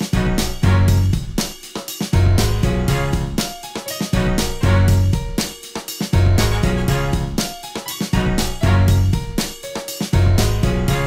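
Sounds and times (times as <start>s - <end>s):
drum kit and bass music: 0.0s - 11.0s.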